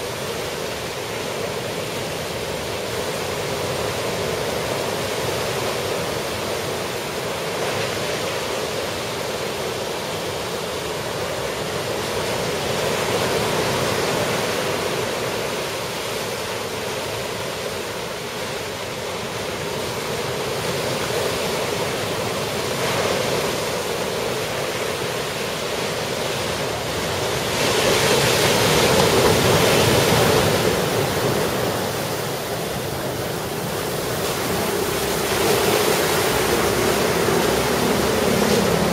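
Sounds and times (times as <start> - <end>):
waves breaking on beach: 0.0 - 38.9.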